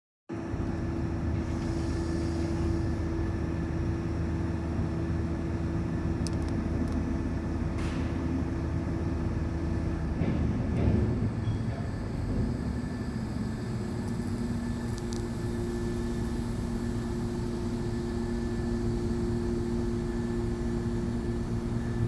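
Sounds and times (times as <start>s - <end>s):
diesel engine droning: 0.5s - 22.0s.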